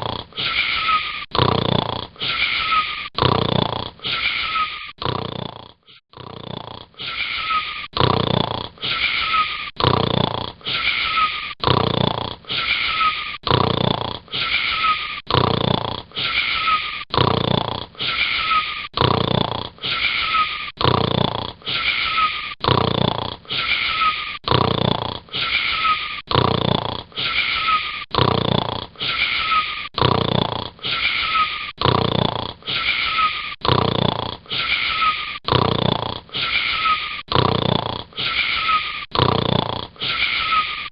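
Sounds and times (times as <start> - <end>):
wheezy snoring: 0.0 - 40.9.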